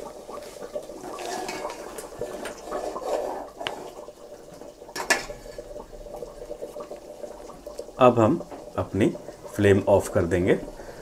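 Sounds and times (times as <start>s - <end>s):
ladle stirring gravy in a pot: 0.0s - 11.0s.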